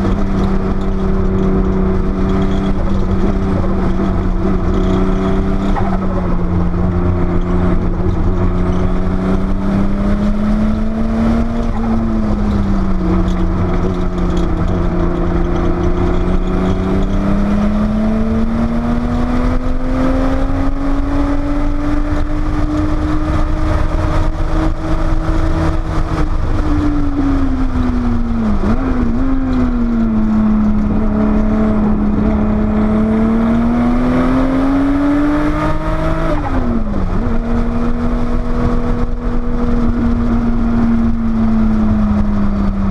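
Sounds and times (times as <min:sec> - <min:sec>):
car engine under load: 0:00.0 - 0:42.9.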